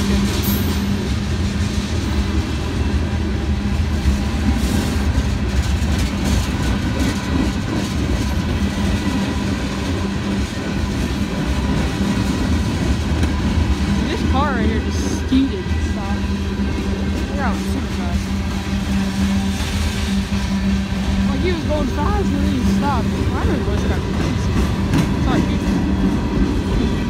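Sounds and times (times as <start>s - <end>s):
steel wheels rumbling on rails: 0.0s - 27.0s.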